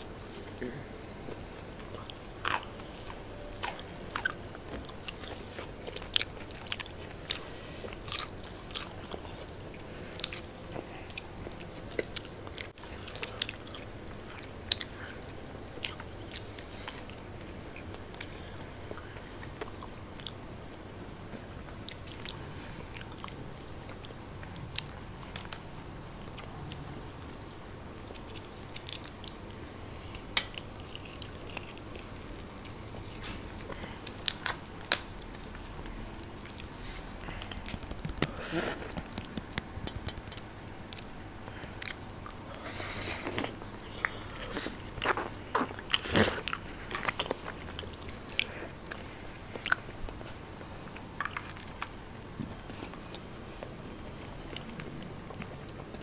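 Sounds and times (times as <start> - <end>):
crunchy crackers being chewed: 0.3 - 56.0.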